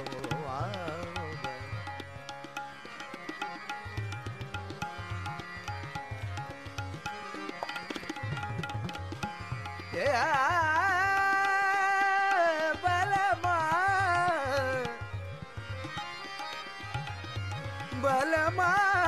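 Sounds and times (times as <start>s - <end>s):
tabla beat: 0.0s - 19.0s.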